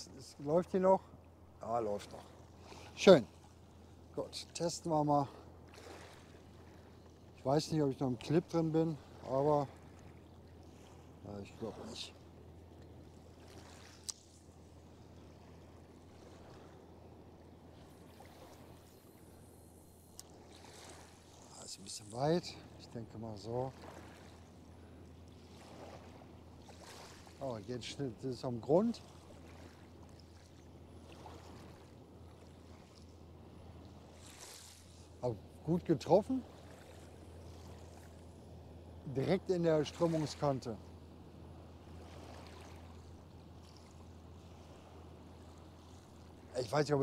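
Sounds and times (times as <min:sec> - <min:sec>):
low hum: 0:00.0 - 0:47.0
ship engine drone: 0:00.0 - 0:47.0
soft water noise: 0:00.0 - 0:47.0.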